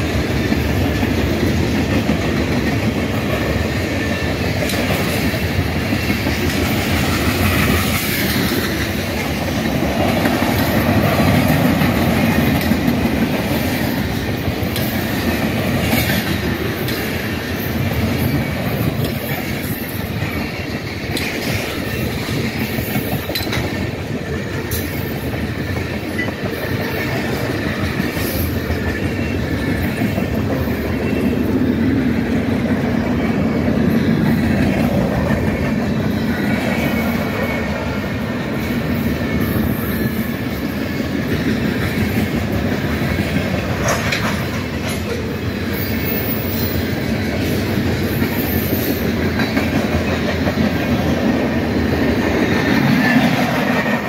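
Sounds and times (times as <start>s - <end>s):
freight train cars rolling: 0.0s - 54.0s
wheel clacks on rail: 0.0s - 54.0s.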